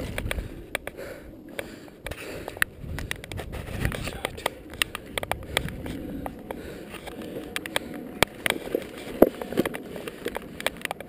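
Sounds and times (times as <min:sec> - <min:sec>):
bike parts clicking and knocking: 0:00.0 - 0:11.0
low outdoor rumble: 0:00.0 - 0:11.0.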